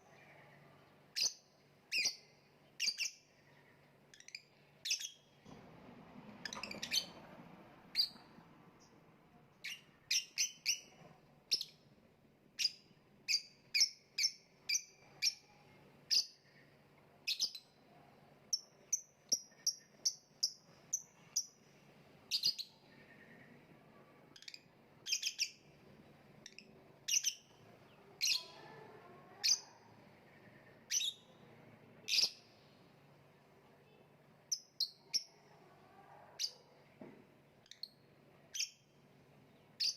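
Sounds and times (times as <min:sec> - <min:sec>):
lovebird chirping: 0:00.0 - 0:05.4, 0:06.4 - 0:07.3, 0:07.9 - 0:09.0, 0:09.6 - 0:11.9, 0:12.6 - 0:17.9, 0:18.5 - 0:25.8, 0:26.4 - 0:32.9, 0:34.4 - 0:35.6, 0:37.6 - 0:39.9.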